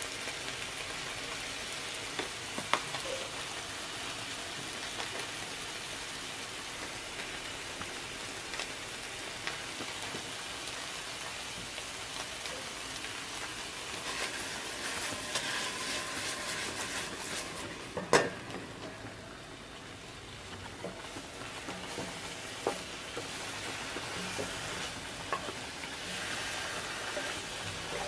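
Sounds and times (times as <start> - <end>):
fish and onions sizzling in pan: 0.0 - 28.0.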